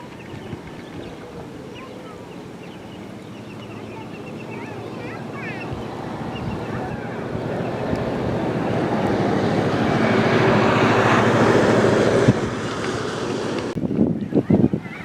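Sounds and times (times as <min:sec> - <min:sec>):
motor vehicle passing: 0:00.0 - 0:13.8
wind buffeting microphone: 0:00.0 - 0:15.0.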